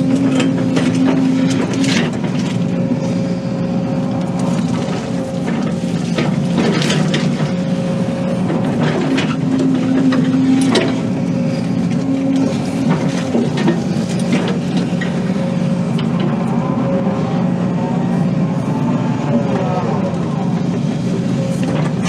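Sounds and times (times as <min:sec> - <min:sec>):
diesel excavator engine under load: 0:00.0 - 0:22.0.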